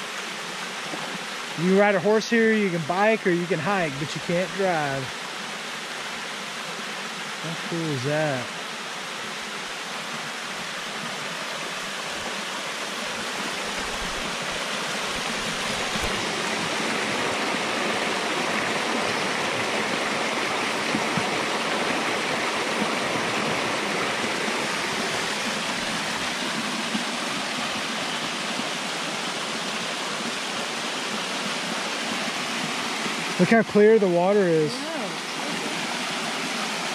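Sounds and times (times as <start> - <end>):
waterfall splashing into pool: 0.0 - 36.9.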